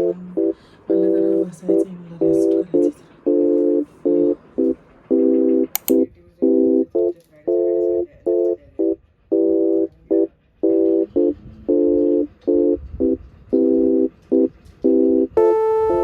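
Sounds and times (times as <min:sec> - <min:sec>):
higher tone stepping down: 0:00.0 - 0:16.0.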